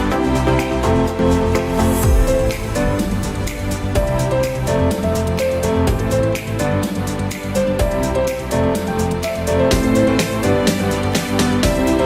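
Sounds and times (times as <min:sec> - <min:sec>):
melodic background music: 0:00.0 - 0:12.0.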